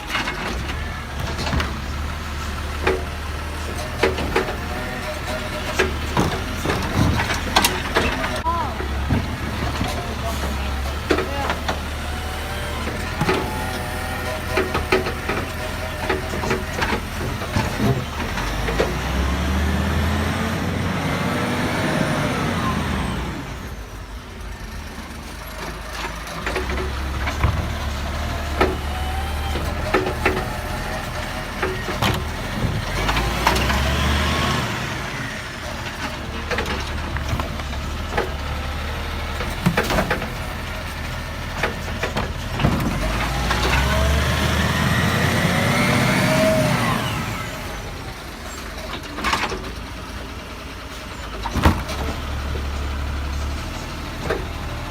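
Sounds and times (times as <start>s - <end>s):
knocks and clunks: 0.0s - 23.2s, 25.5s - 47.7s, 48.5s - 49.9s, 51.2s - 54.9s
garbage truck engine revving: 0.0s - 54.9s.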